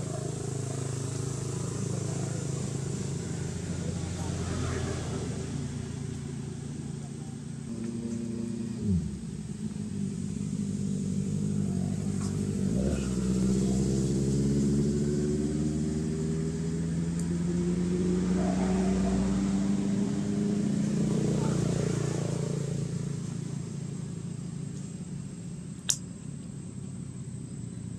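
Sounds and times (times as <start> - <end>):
deeper engine note: 0.0 - 25.8
vehicle engine humming: 0.0 - 27.9.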